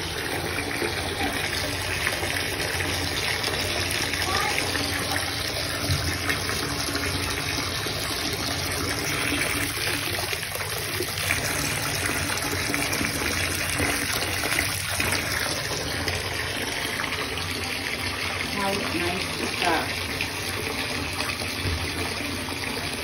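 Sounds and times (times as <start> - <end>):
bath tap water pouring and splashing: 0.0 - 23.0.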